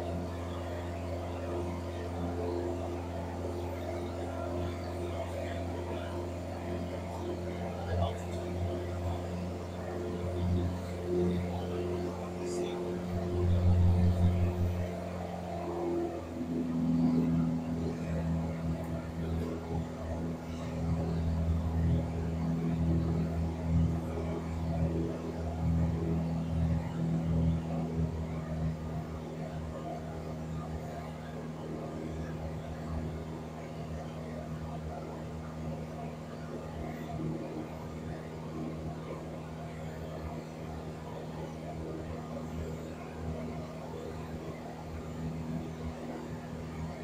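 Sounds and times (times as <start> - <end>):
airplane engine droning in cabin: 0.0 - 47.0.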